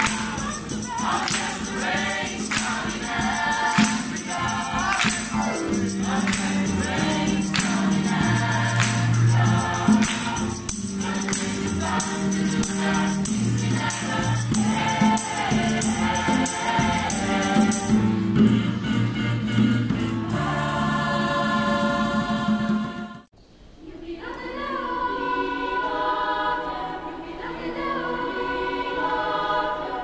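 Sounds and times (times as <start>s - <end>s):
mixed choir singing in harmony: 0.0s - 18.6s, 19.8s - 30.0s.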